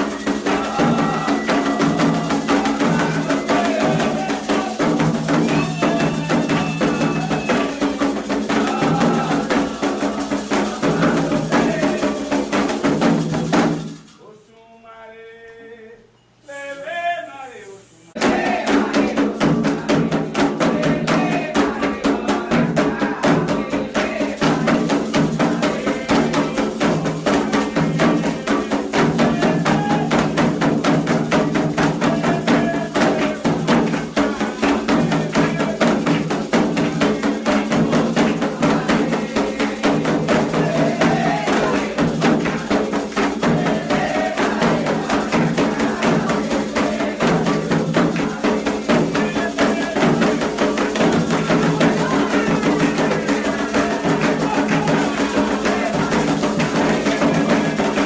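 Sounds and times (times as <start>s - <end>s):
fast hand drumming: 0.0s - 14.1s, 18.2s - 58.0s
voices singing a chant: 0.0s - 58.0s.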